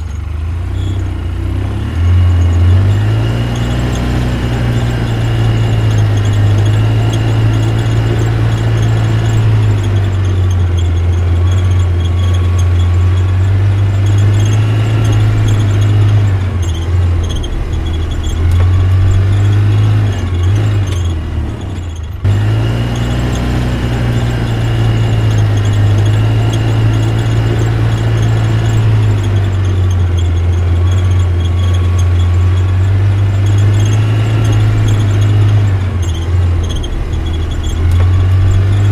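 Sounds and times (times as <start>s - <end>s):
high squealing tones: 0.0s - 38.9s.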